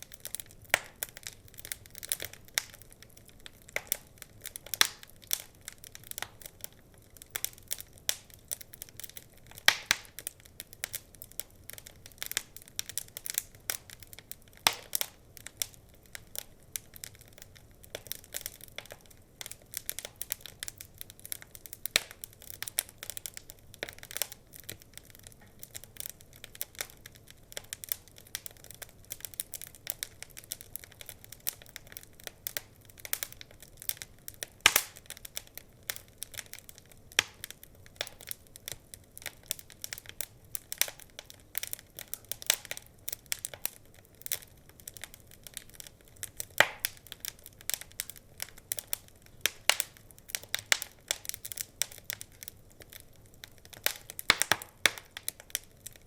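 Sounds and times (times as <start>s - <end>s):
loud fire snaps: 0.0s - 56.0s
wood fire crackling: 0.0s - 56.0s.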